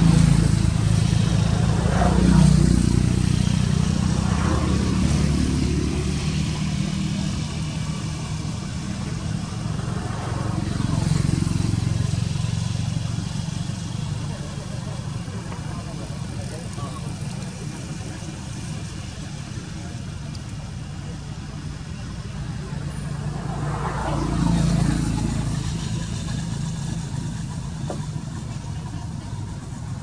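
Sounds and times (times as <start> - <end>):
vehicle engines humming: 0.0 - 30.0.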